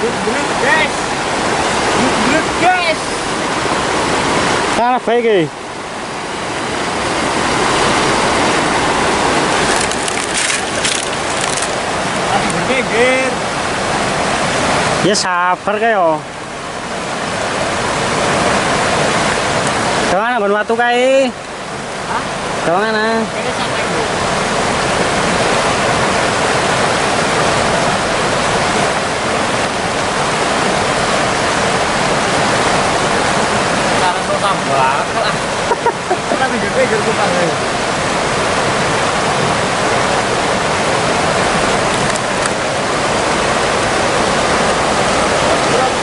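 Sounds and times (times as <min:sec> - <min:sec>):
river water rushing over rocks: 0:00.0 - 0:46.0.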